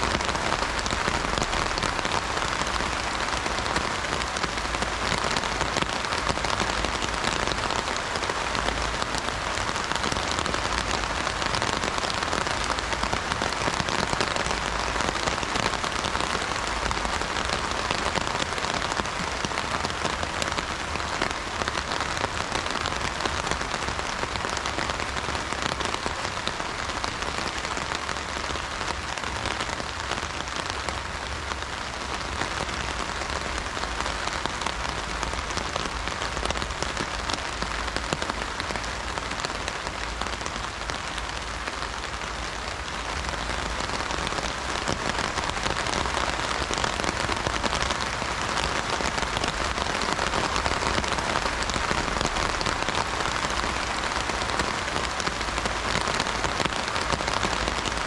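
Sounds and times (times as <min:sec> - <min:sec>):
rain drumming on umbrella: 0:00.0 - 0:58.0.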